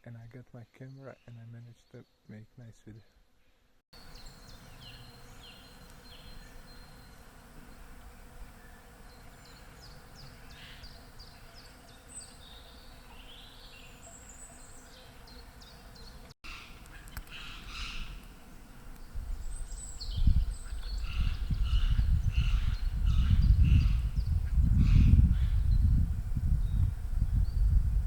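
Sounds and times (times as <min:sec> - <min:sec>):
songbirds chirping: 0:00.0 - 0:27.8.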